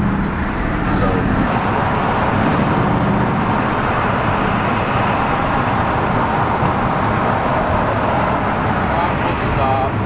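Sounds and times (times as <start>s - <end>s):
car engine drone: 0.0s - 10.0s
road noise: 0.0s - 10.0s.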